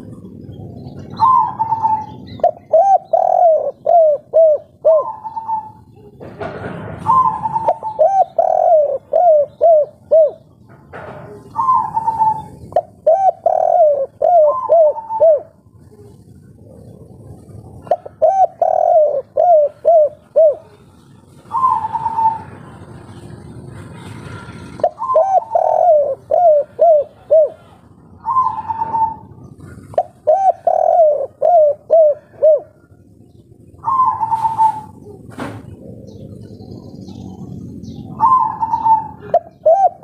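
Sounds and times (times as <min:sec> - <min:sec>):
dove cooing: 0:00.0 - 0:22.8, 0:24.5 - 0:40.0.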